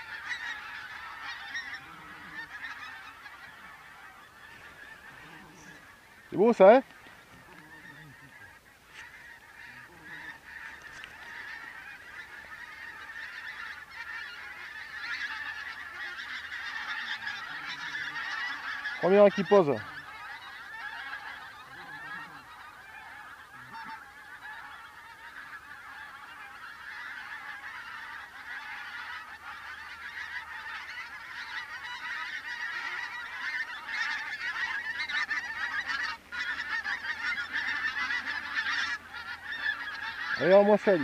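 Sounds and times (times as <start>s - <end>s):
geese honking: 0.0s - 41.0s.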